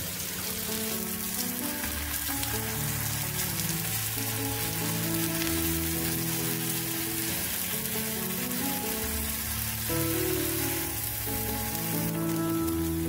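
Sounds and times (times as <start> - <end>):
background music of held notes: 0.0 - 13.0
tofu sizzling in oil: 0.0 - 13.0.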